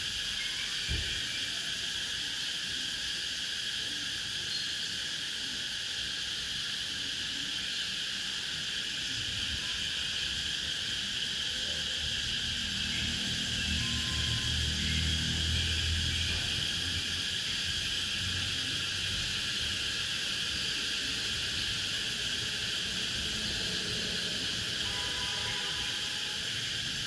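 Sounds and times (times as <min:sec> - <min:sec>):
cicadas buzzing: 0:00.0 - 0:27.0.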